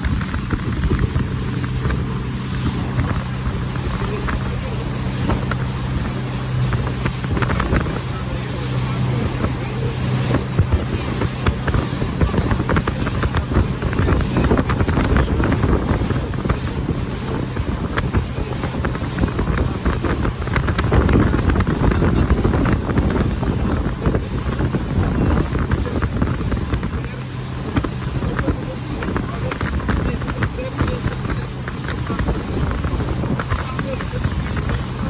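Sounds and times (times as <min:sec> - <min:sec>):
boat motor running: 0:00.0 - 0:35.0
water splashing against hull: 0:00.0 - 0:35.0
wind buffeting microphone: 0:00.0 - 0:35.0.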